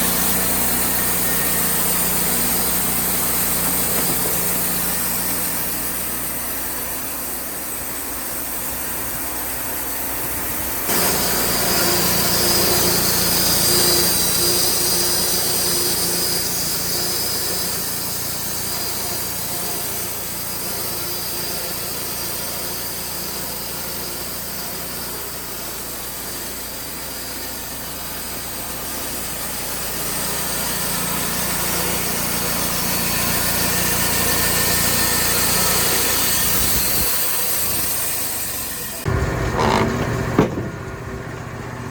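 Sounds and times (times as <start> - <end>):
band sawmill running: 0.0 - 41.9.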